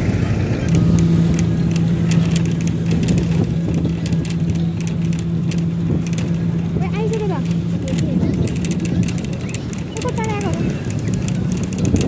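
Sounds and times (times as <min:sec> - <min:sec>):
bus engine humming: 0:00.0 - 0:12.0
road rumble: 0:00.0 - 0:12.0
rattles and clicks from bus body: 0:00.3 - 0:12.0.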